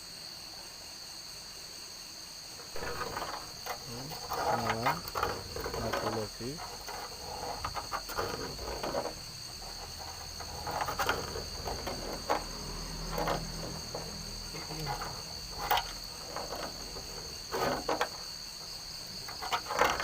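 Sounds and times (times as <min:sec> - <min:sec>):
crickets trilling: 0:00.0 - 0:20.0
soft knocks: 0:02.7 - 0:20.0.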